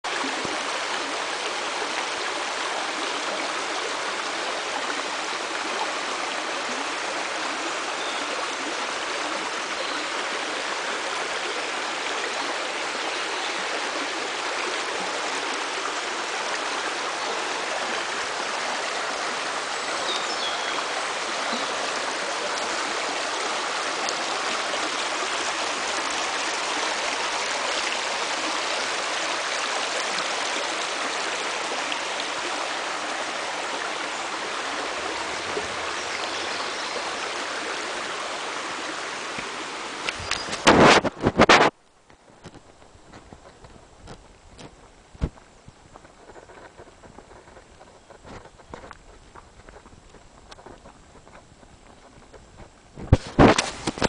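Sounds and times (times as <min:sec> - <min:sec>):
water rushing over stones: 0:00.0 - 0:54.0.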